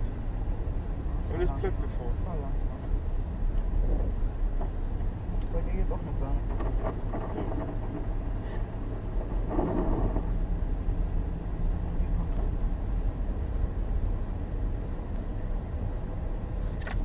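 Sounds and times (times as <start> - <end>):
car driving on packed snow: 0.0 - 17.0.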